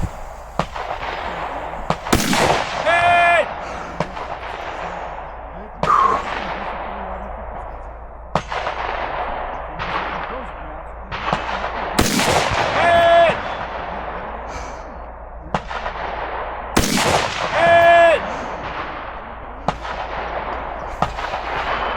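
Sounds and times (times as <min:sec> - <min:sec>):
gunshots with echo: 0:00.0 - 0:21.9.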